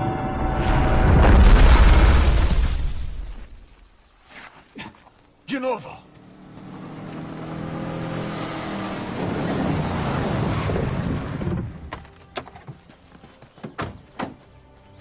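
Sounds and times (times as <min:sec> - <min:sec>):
vehicle engine and tyres on dirt: 0:00.0 - 0:15.0.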